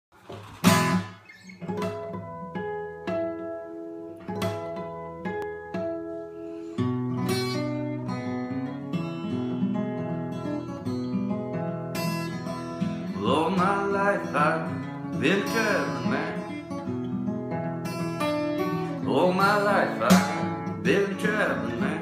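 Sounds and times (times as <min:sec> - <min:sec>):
acoustic guitar fingerpicked blues: 0:00.2 - 0:22.0.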